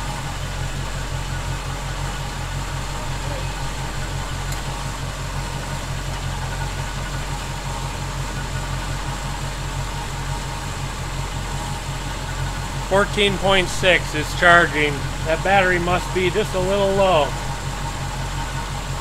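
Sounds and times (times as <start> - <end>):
pickup truck engine idling: 0.0 - 19.0.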